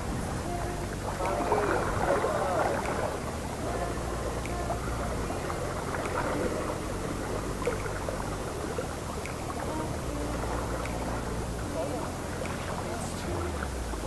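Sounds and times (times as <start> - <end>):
low steady hum: 0.0 - 14.0
water moving at shoreline: 0.0 - 14.0.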